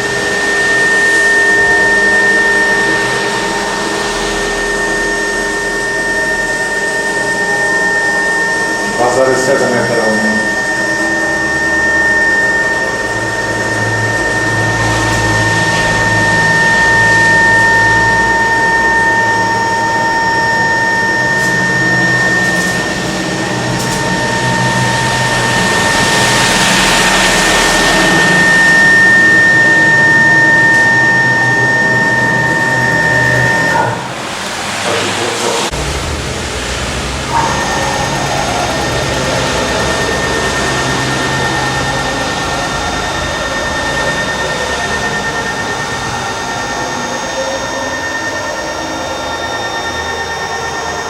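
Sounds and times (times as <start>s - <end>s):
cnc router motors whining: 0.0s - 51.0s.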